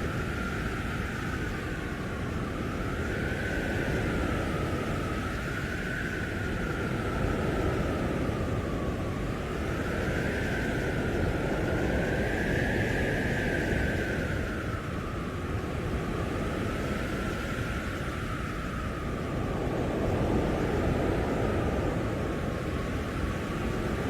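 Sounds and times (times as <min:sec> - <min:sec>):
storm wind howling: 0:00.0 - 0:24.0.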